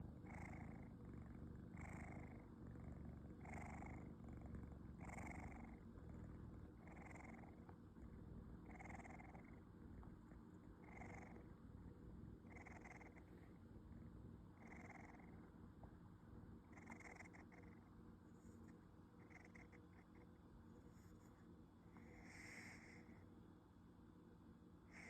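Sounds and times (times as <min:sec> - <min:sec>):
kitten snoring softly: 0:00.0 - 0:23.4, 0:24.8 - 0:25.0
low steady rumble: 0:00.0 - 0:25.0.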